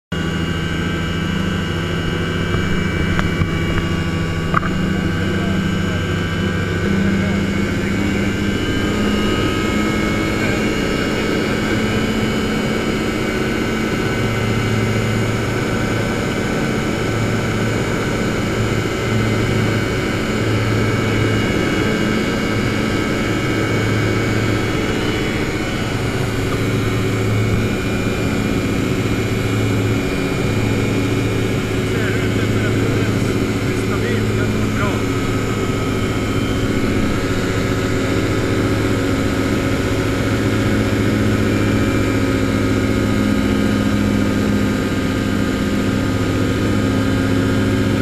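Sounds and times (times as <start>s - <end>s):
aircraft engine and propeller droning: 0.1s - 48.0s
low pulsing hum: 0.1s - 48.0s.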